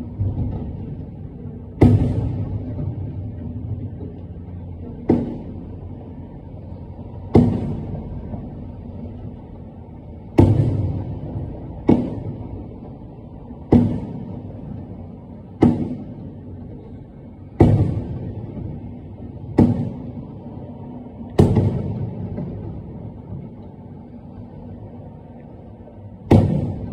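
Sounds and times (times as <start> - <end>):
firework shells booming: 0.0 - 24.1, 26.2 - 26.9.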